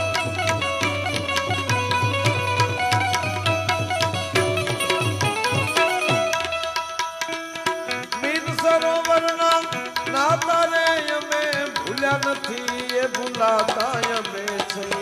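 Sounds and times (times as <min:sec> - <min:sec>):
tabla strokes: 0:00.0 - 0:15.0.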